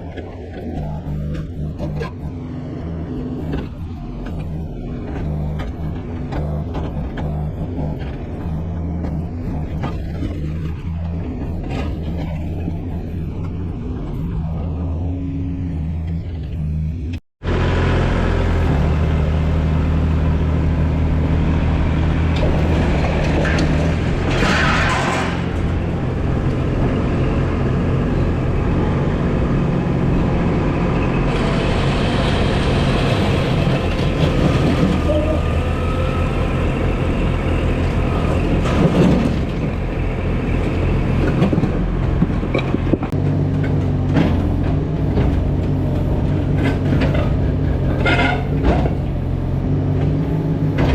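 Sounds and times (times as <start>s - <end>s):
noisy bursts: 0.0s - 43.2s
heavy diesel engine running: 0.0s - 50.9s.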